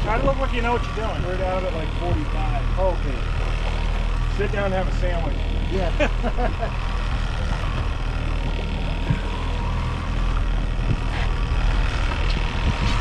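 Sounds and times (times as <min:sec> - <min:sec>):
boat motor running: 0:00.0 - 0:13.0
wind: 0:00.0 - 0:13.0.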